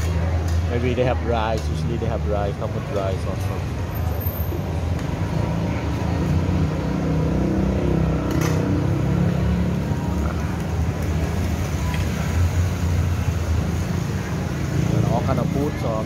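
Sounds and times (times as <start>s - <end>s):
scooter and car engines passing: 0.0s - 16.0s.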